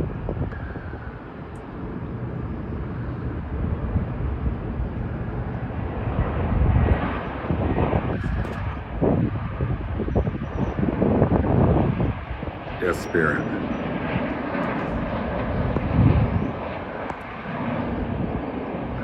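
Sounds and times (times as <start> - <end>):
jet airliner engine noise: 0.0 - 19.0.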